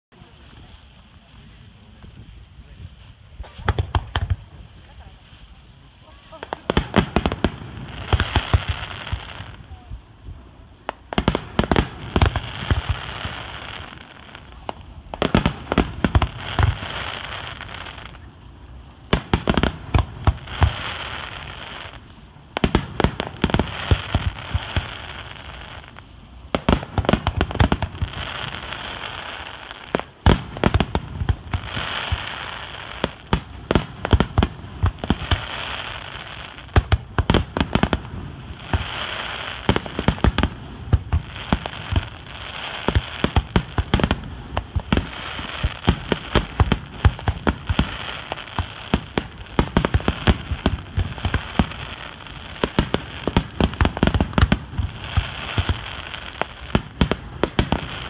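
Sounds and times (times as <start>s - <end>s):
fireworks booming and cracking: 0.0s - 58.0s
fireworks hiss: 0.0s - 58.0s.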